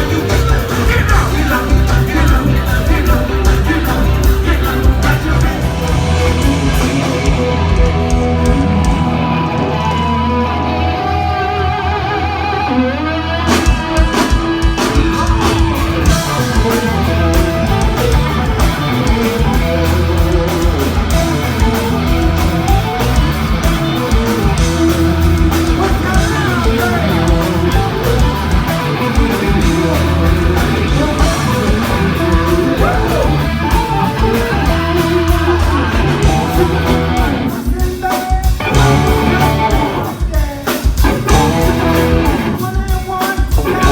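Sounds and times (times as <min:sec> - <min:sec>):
drums steady beat: 0:00.0 - 0:09.4, 0:13.5 - 0:43.9
bass line: 0:00.0 - 0:37.8, 0:38.5 - 0:43.9
electric guitar: 0:00.0 - 0:43.9
live funk band playing: 0:00.0 - 0:43.9.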